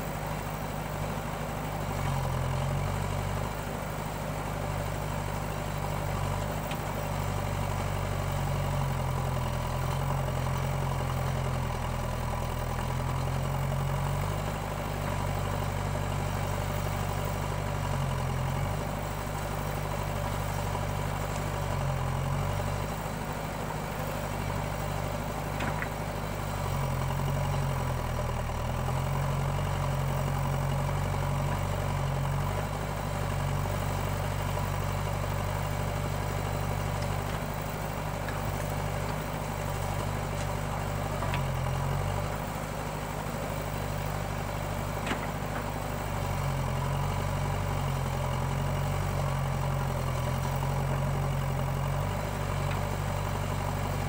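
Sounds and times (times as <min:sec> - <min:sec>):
backhoe diesel engine working: 0:00.0 - 0:54.0
tractor idling: 0:00.0 - 0:54.0.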